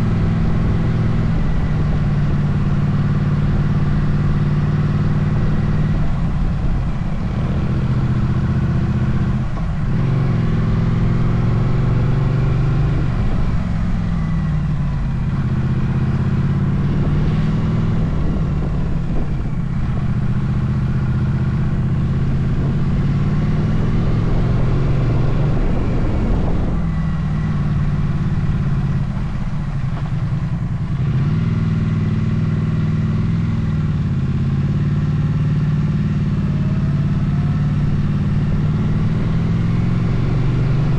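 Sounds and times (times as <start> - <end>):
motorcycle engine revving: 0.0 - 40.9
wind noise rumble: 0.0 - 40.9.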